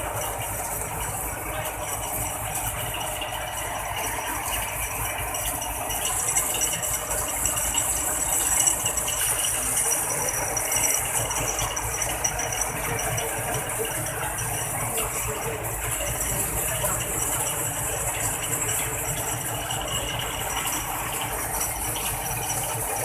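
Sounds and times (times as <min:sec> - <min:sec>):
mechanical rattle: 0:00.0 - 0:23.0
tow truck engine running: 0:00.0 - 0:23.0.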